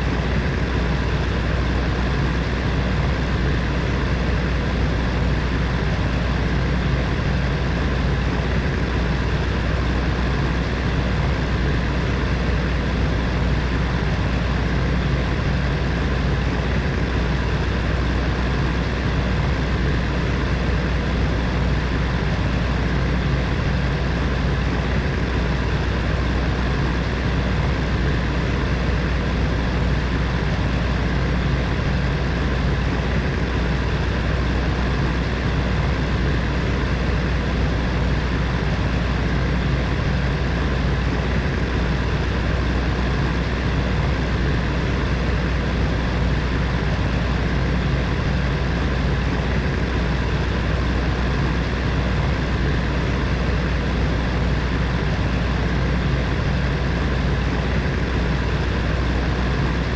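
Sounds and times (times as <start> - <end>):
heater fan running: 0.0 - 59.9.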